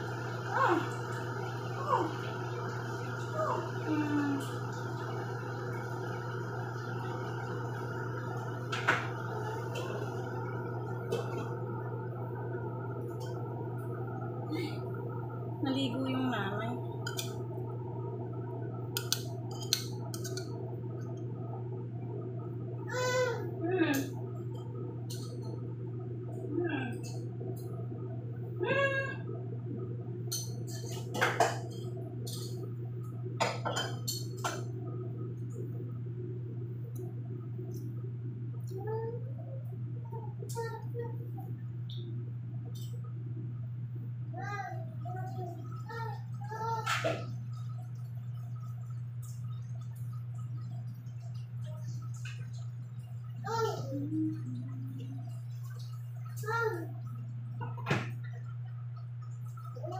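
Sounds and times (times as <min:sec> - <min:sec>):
kitchen hum and hiss: 0:00.0 - 0:59.9.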